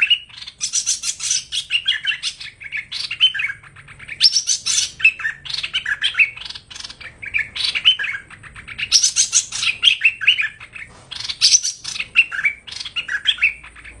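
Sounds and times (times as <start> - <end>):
bird chirping and whistling: 0.0 - 14.0.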